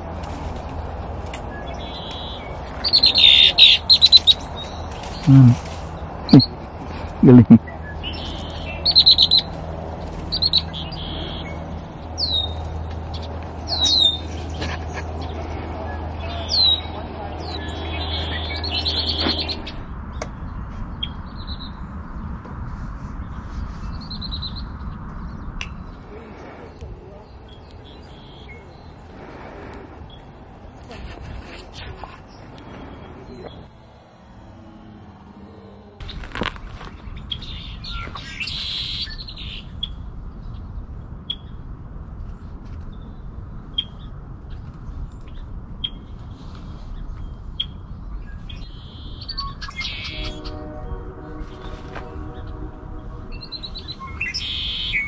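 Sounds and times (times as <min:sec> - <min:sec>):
songbirds calling and trilling: 0:01.2 - 0:55.0.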